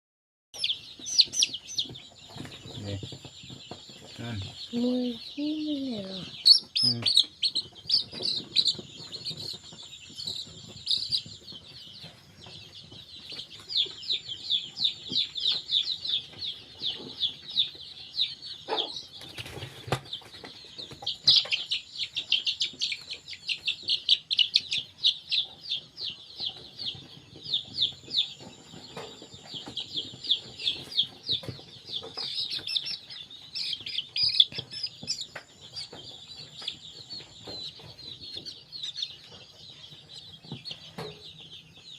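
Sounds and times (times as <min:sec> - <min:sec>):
chicks peeping: 0:00.6 - 0:41.9.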